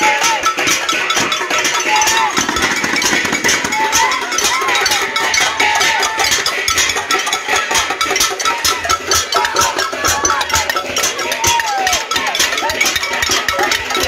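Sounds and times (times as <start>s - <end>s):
voices calling: 0.0s - 14.0s
pots and pans clanging: 0.1s - 14.0s.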